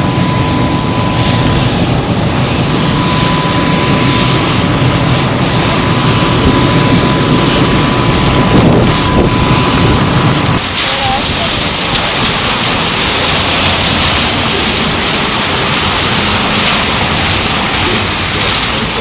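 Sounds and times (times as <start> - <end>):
jet engine whine and rumble: 0.0 - 19.0.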